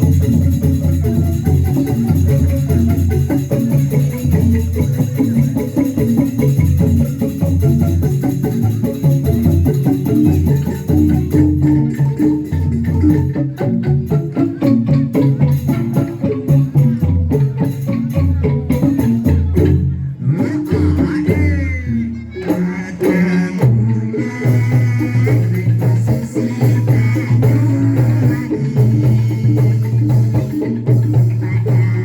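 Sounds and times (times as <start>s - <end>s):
hand drum beat: 0.0s - 32.0s
instrumental gamelan-pop music: 0.0s - 32.0s.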